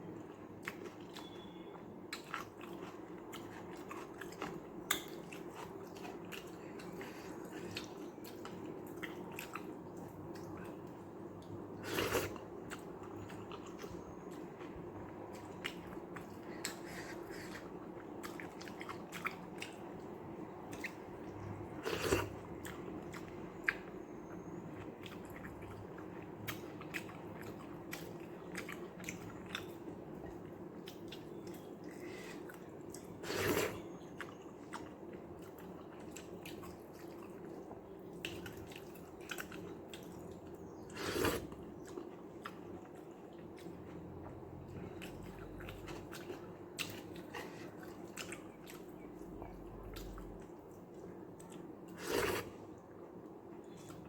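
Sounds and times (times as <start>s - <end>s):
person chewing wetly: 0.1s - 54.0s.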